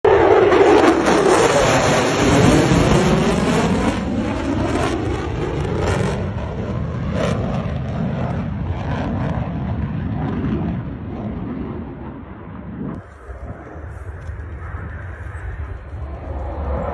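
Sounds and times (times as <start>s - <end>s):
jet engine roar: 0.0s - 16.9s.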